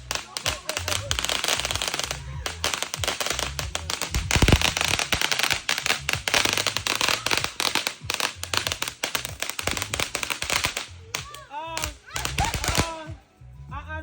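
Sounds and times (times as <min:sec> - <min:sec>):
fireworks crackling bangs: 0:00.0 - 0:13.2.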